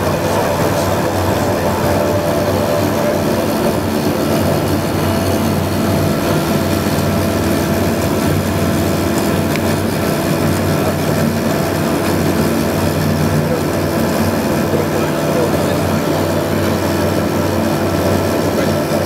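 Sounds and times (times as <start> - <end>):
turboprop engines droning in cabin: 0.0 - 19.0.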